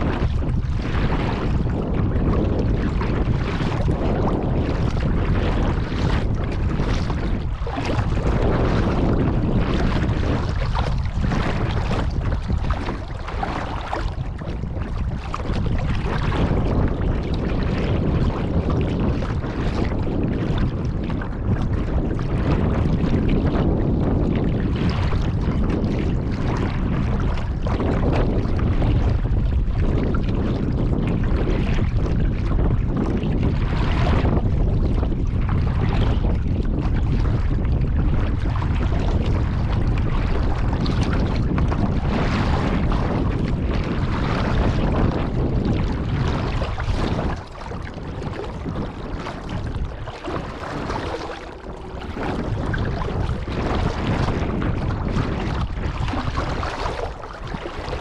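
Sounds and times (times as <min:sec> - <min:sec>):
water splashing around boat: 0:00.0 - 0:58.0
wind buffeting microphone: 0:00.0 - 0:58.0.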